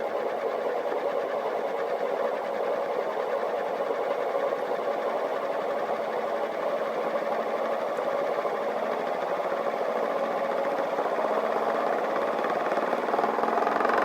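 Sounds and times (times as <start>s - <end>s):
small motor whirring: 0.4s - 14.0s.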